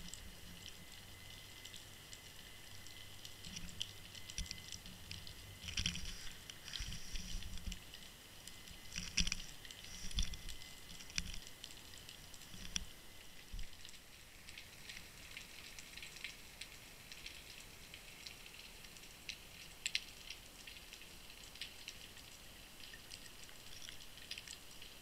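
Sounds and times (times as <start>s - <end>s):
crackles and ticks: 0.0s - 25.0s.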